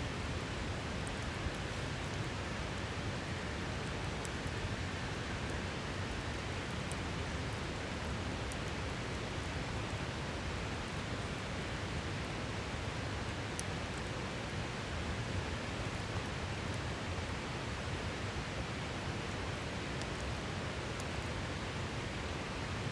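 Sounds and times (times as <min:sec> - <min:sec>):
campfire crackles: 0:00.1 - 0:22.8.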